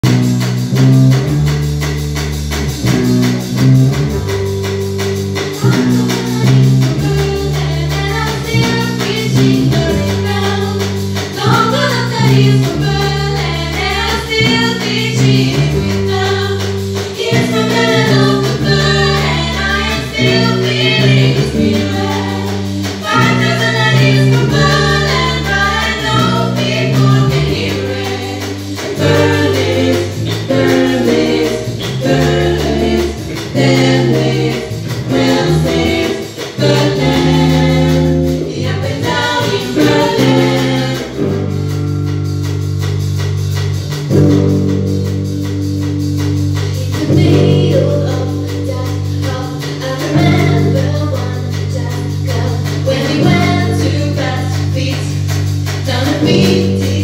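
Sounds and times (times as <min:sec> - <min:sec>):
live jazz-fusion band: 0:00.0 - 0:57.0
repeating bass riff: 0:00.0 - 0:57.0
female voices singing in harmony: 0:05.6 - 0:41.6, 0:46.8 - 0:57.0.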